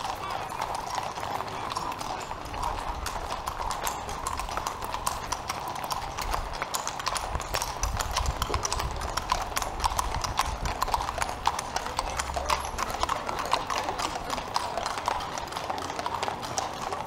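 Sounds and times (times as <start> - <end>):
horse hooves clip-clopping on asphalt: 0.0 - 17.0.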